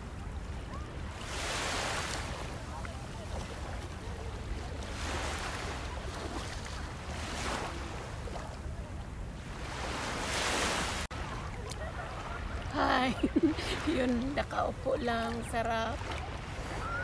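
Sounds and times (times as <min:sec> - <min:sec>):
small waves washing onto shore: 0:00.0 - 0:17.0.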